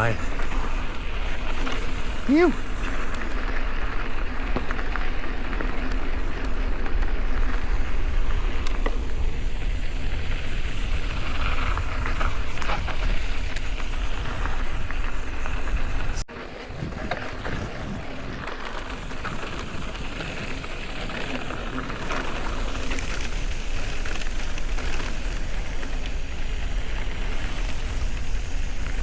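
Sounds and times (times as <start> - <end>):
wind buffeting microphone: 0.0 - 3.4, 5.4 - 29.0
bike tyres rolling on dirt trail: 0.0 - 29.0.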